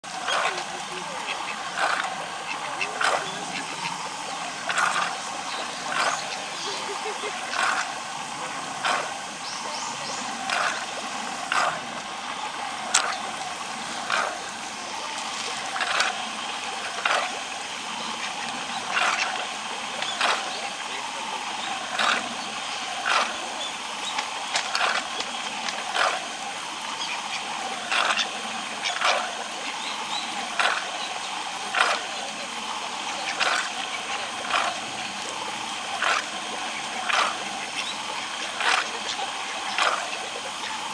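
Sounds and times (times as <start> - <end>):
churning water: 0.0 - 40.9
fish splashing and gulping: 0.0 - 40.9.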